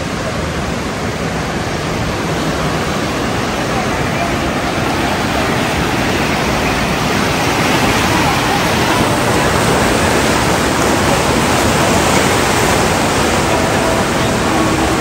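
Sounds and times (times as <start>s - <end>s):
water rushing through weir: 0.0s - 15.0s.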